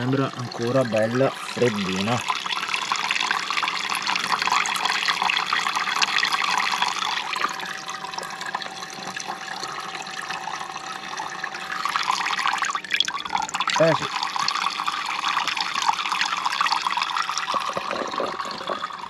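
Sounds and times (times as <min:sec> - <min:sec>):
tap water splashing into a jug: 0:00.0 - 0:10.6, 0:11.2 - 0:19.0.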